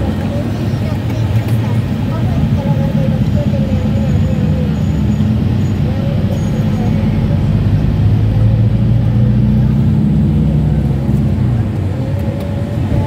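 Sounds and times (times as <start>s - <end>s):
car engine drone: 0.0s - 13.0s
road and tyre noise: 0.0s - 13.0s.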